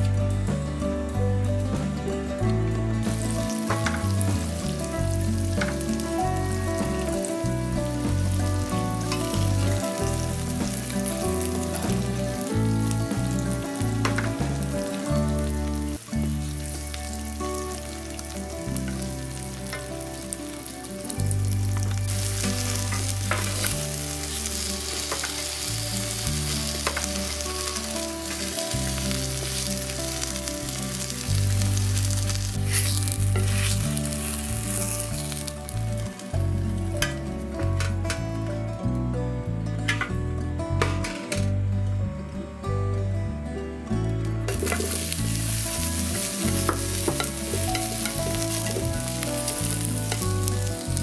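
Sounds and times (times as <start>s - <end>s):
chicken sizzling in frying pan: 0.0s - 38.3s, 44.5s - 51.0s
background music with bass line: 0.0s - 51.0s.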